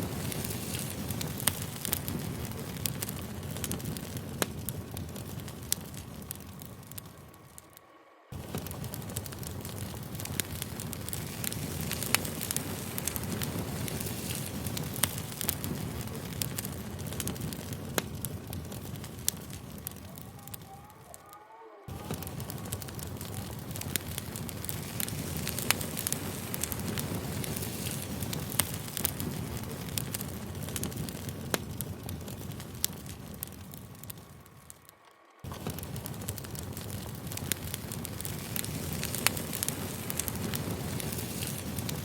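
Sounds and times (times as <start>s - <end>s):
campfire crackling: 0.0s - 42.0s
fire popping: 0.0s - 42.0s.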